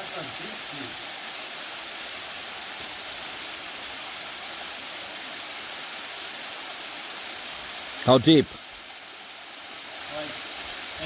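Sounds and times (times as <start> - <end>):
small waterfall pouring into pool: 0.0 - 11.0.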